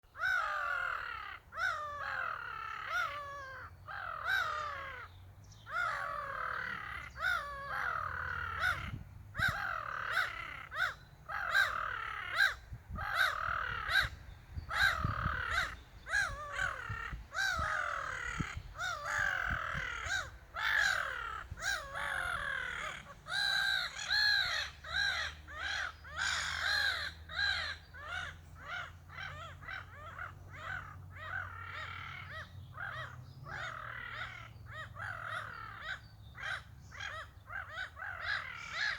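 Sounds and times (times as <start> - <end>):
seagulls squawking: 0.1 - 5.1, 5.7 - 38.9.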